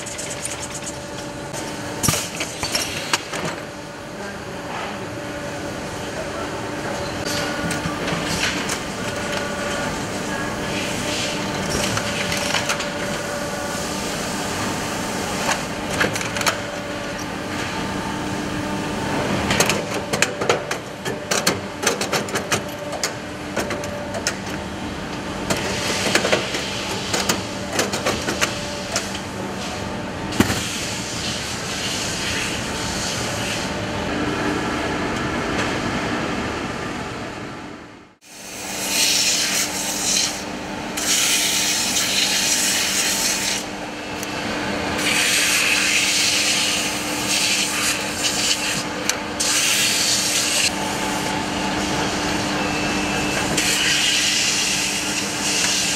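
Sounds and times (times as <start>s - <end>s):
machines humming: 0.0s - 55.9s.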